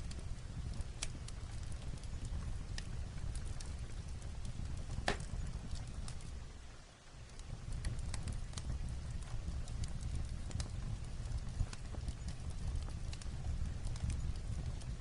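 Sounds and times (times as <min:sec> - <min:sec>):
fireplace crackling: 0:00.0 - 0:15.0
light rain on a roof: 0:00.0 - 0:15.0.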